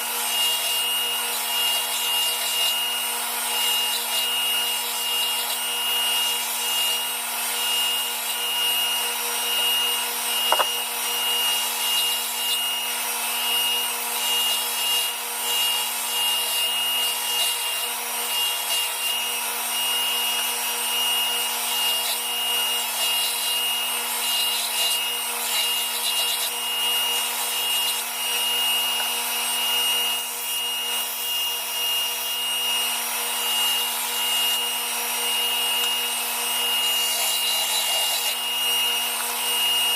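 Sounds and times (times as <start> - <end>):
power sander grinding steel: 0.0 - 39.9.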